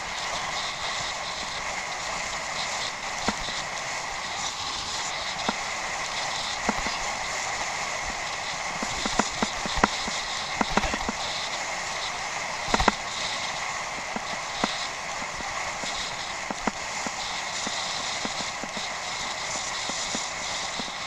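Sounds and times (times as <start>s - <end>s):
bicycle tyres rushing hiss: 0.0s - 21.0s.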